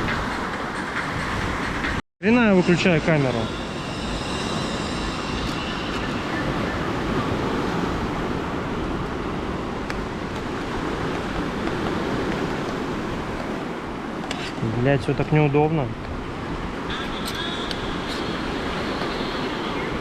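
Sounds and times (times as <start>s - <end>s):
sea surf: 0.0s - 20.0s
wind rumbling on microphone: 3.1s - 20.0s.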